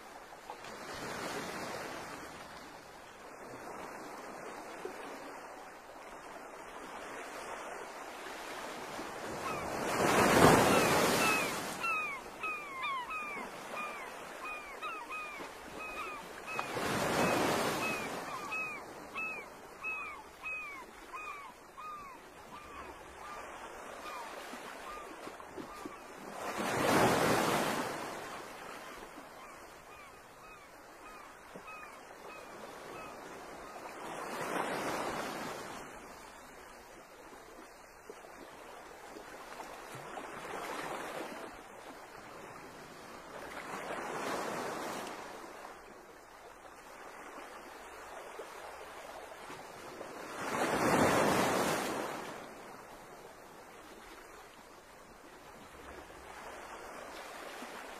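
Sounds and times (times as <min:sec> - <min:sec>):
small waves washing ashore: 0:00.0 - 0:57.9.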